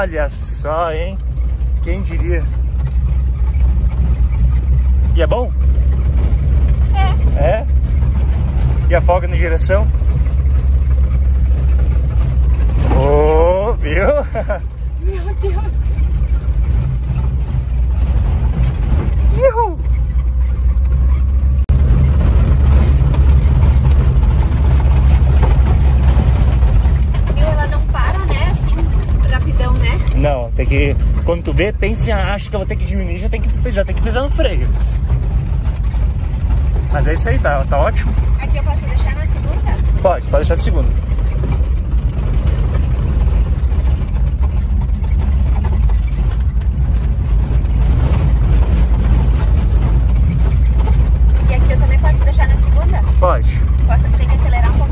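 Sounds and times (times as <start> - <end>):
road and body noise: 0.0 - 54.9
van engine running: 0.0 - 54.9.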